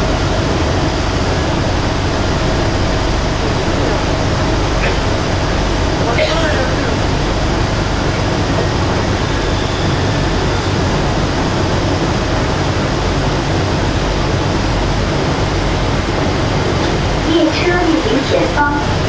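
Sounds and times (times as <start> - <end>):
subway train running in tunnel: 0.0 - 19.0.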